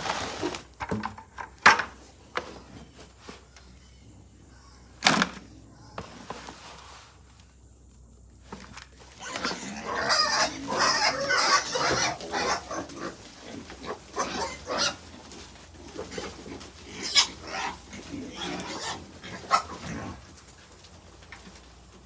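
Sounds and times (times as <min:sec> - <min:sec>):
animals grunting and squealing: 0:02.2 - 0:06.5, 0:08.4 - 0:22.0.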